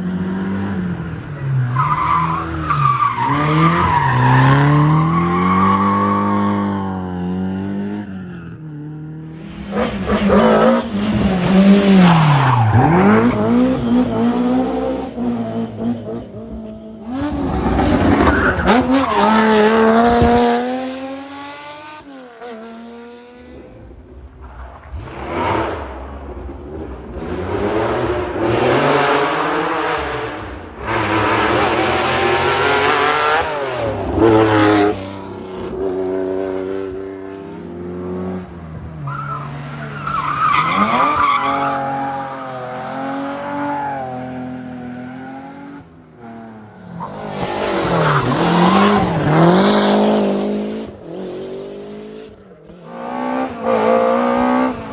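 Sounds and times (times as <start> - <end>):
rally car engines revving: 0.0 - 54.9.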